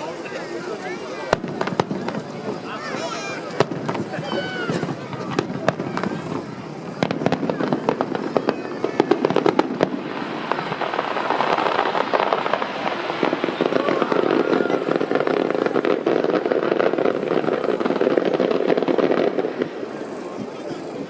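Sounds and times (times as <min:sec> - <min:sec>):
fireworks crackling pops: 0:00.0 - 0:21.0.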